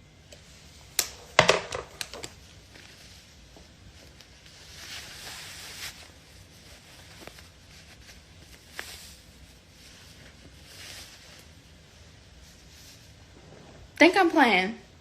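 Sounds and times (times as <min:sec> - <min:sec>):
rustling and handling noise: 0:00.1 - 0:14.7.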